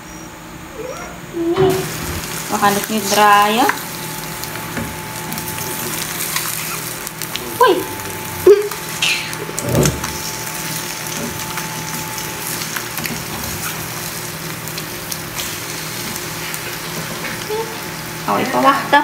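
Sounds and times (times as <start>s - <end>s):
egg sizzling in pan: 1.7s - 19.0s.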